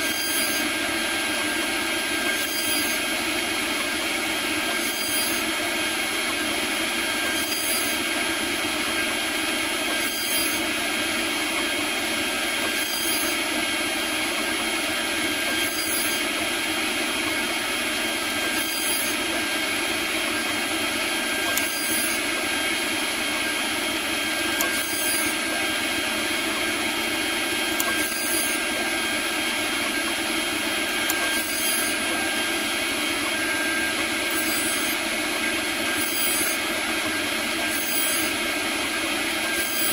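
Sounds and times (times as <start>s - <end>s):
router spindle whining while cutting: 0.0s - 39.9s.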